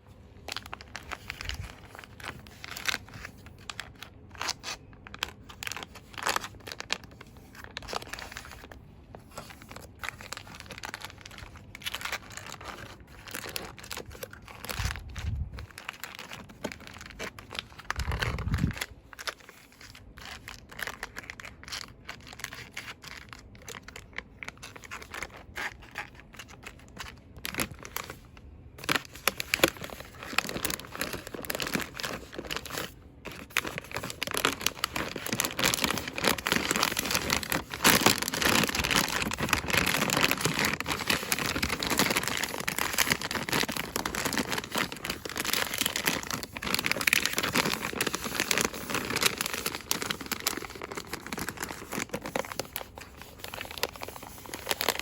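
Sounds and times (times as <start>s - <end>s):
packaging rustling and crinkling: 0.0s - 55.0s.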